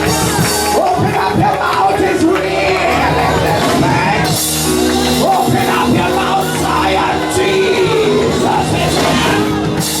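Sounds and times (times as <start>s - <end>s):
congregation singing and shouting: 0.0s - 10.0s
held instrumental chords: 0.0s - 10.0s.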